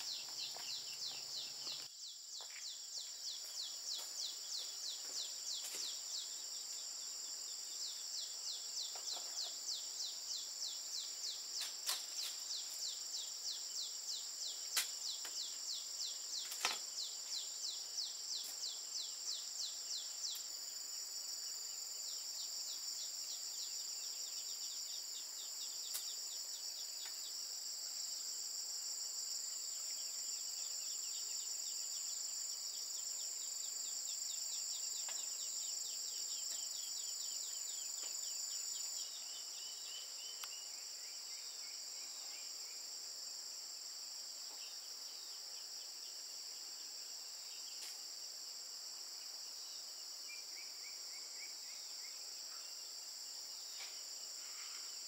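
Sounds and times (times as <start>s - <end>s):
high-pitched insect chorus: 0.0s - 55.0s
rapid insect chirps: 0.0s - 55.0s.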